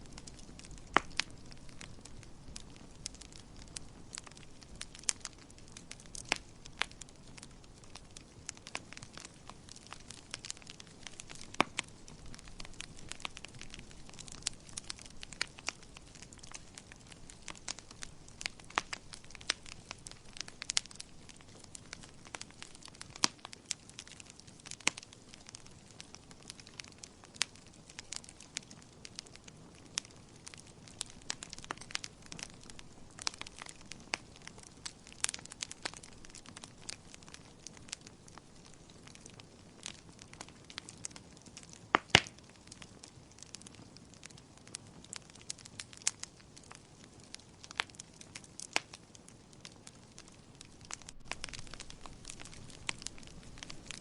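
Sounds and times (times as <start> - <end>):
soft steady hiss: 0.0 - 54.0
wood fire crackling and popping: 0.0 - 54.0.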